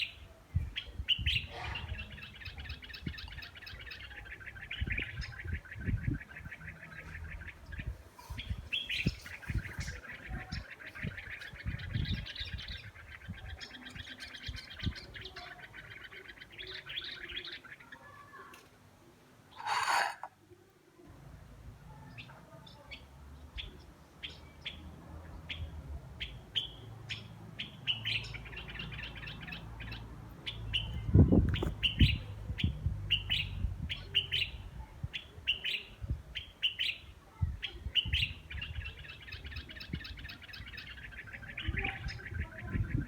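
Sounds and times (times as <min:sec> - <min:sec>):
small bird chirping and trilling: 0:00.0 - 0:18.4, 0:19.5 - 0:20.3, 0:26.2 - 0:43.0.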